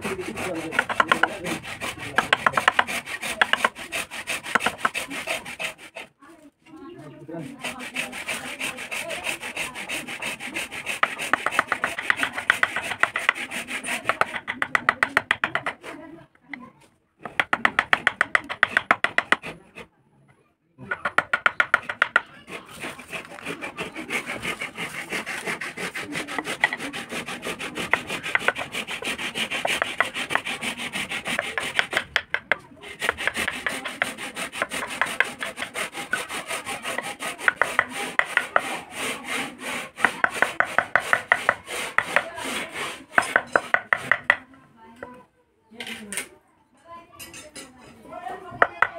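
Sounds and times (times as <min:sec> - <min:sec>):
hand file scraping wood: 0:00.0 - 0:06.2, 0:07.2 - 0:16.2, 0:17.2 - 0:19.9, 0:20.9 - 0:45.2.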